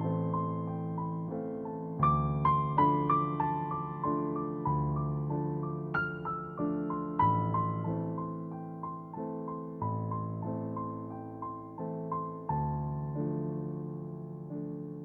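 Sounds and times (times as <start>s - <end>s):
soft slow piano music: 0.0s - 15.0s.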